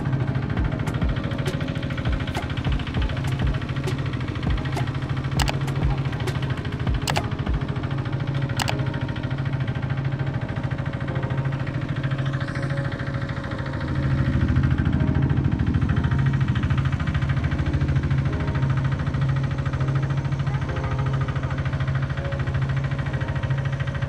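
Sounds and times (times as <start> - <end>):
hand tractor engine chugging: 0.0 - 24.0.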